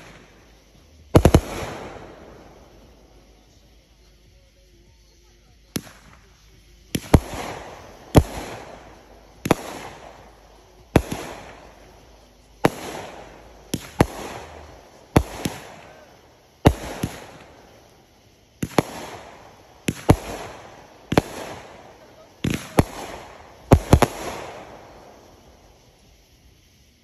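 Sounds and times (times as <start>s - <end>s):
firework bangs: 0.0s - 27.0s.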